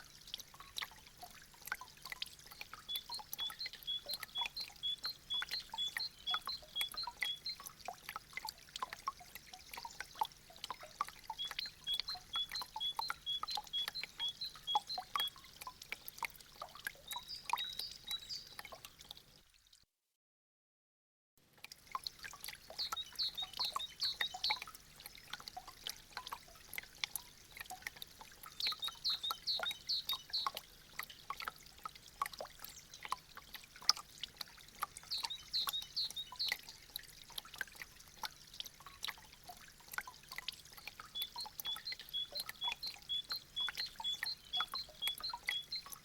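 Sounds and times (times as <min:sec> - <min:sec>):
meltwater dripping: 0:00.0 - 0:19.6, 0:21.5 - 0:46.0.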